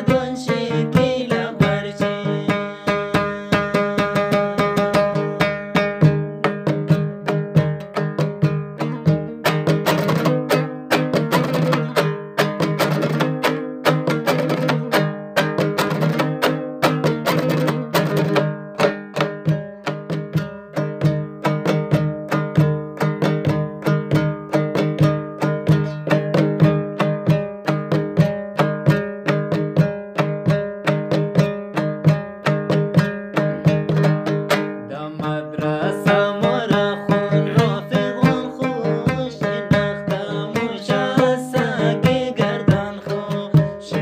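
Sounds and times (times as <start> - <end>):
lute strummed rhythmically: 0.0 - 44.0.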